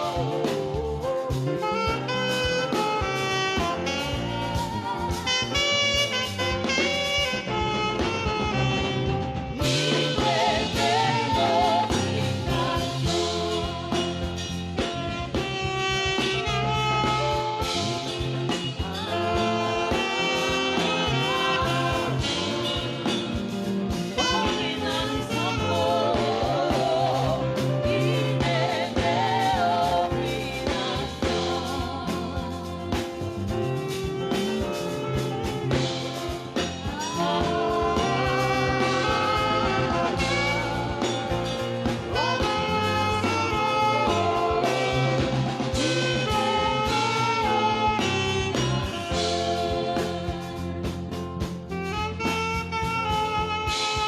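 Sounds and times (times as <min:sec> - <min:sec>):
low bass notes and chords: 0:00.0 - 0:54.0
saxophone melody with vibrato: 0:00.0 - 0:54.0.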